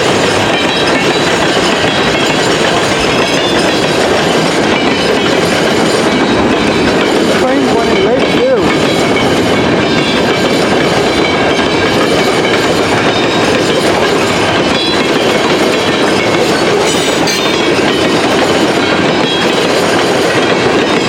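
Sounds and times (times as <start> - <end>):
train wheels clattering on rails: 0.0 - 21.0.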